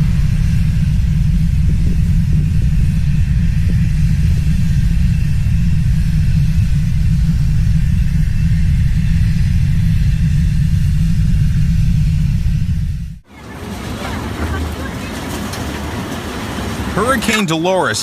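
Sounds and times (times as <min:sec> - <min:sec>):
loud deep rumble: 0:00.0 - 0:17.3.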